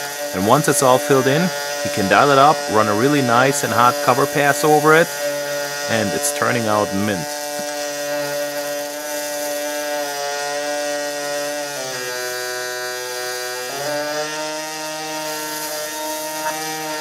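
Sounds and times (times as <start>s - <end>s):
welding arc buzzing: 0.0s - 17.0s.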